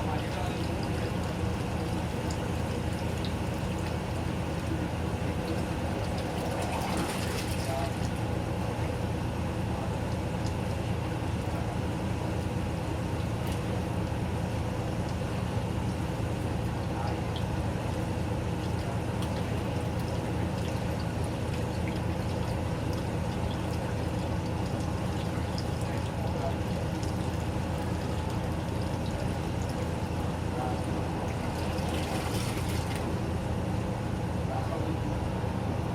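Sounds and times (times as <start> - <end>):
water sloshing in tub: 0.0 - 33.5
washing machine running: 0.0 - 35.9.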